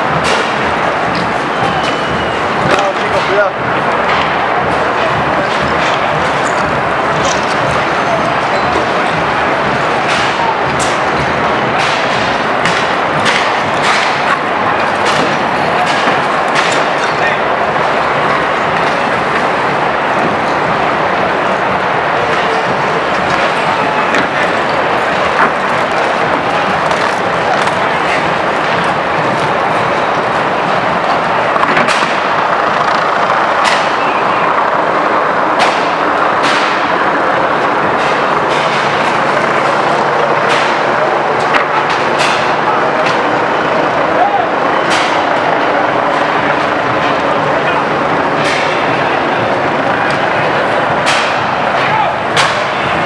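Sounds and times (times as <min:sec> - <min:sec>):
crowd clash din: 0:00.0 - 0:53.0
sharp bangs: 0:00.0 - 0:53.0.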